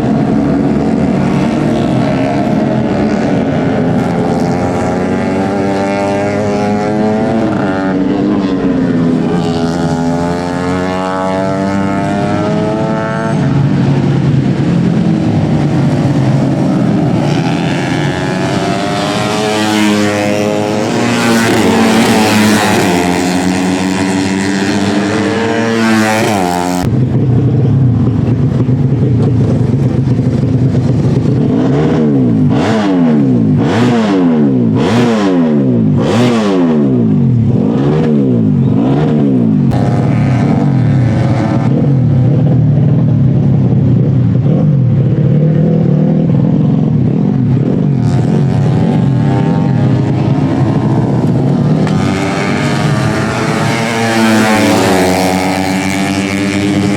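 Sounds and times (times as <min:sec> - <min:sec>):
motorcycle engines revving high: 0:00.0 - 0:56.9.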